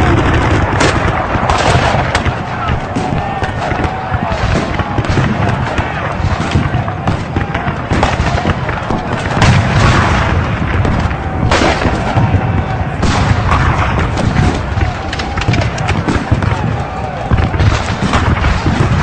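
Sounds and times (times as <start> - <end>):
dense gunfire: 0.0 - 19.0
heavy booms: 0.0 - 19.0
loud blasts: 0.0 - 19.0.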